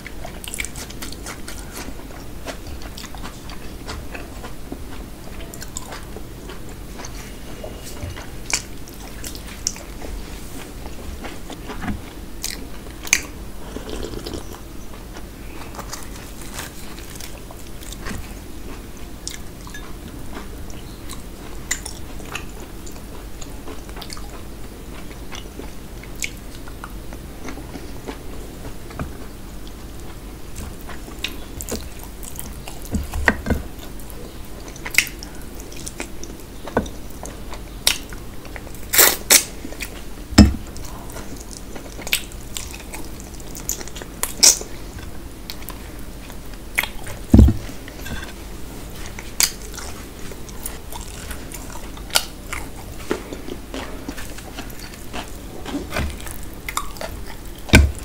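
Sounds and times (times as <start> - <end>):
wet chewing mouth sounds: 0.0 - 58.0.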